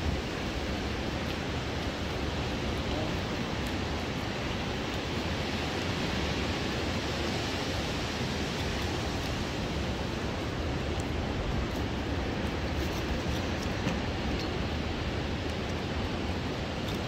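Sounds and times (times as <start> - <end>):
surf washing: 0.0 - 17.0
wind rumbling on microphone: 0.0 - 17.0.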